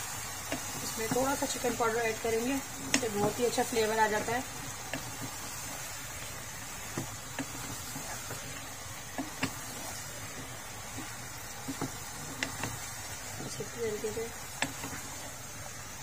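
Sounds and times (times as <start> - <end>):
cooking hiss: 0.0 - 16.0
wooden spoon stirring in a pot: 0.0 - 16.0.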